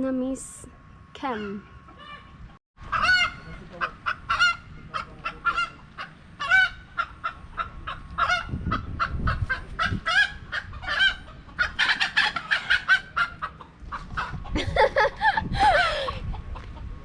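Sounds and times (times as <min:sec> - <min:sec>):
chickens clucking and squawking: 0:01.2 - 0:17.0.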